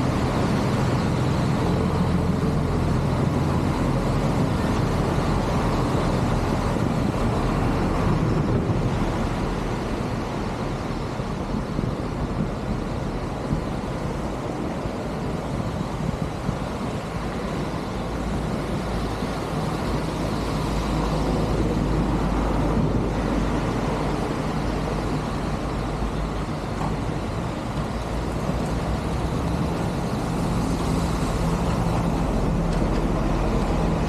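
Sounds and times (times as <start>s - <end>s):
heavy rain on water and pavement: 0.0s - 34.0s.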